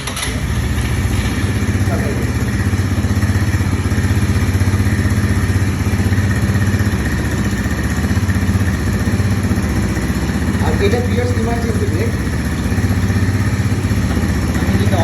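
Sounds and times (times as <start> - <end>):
quad bike engine idling: 0.0 - 15.0.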